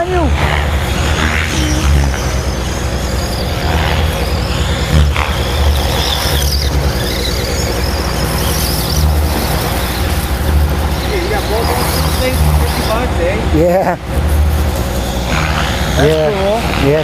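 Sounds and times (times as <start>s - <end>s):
model motor whining: 0.0s - 17.0s
wind buffeting microphone: 0.0s - 17.0s.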